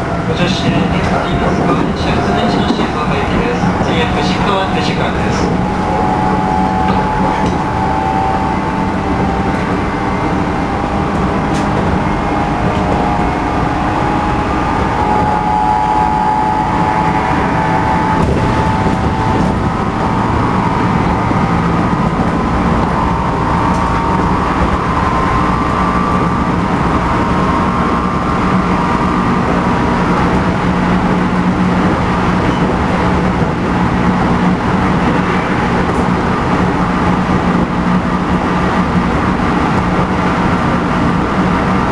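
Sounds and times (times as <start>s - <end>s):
train traction motors humming: 0.0s - 41.9s.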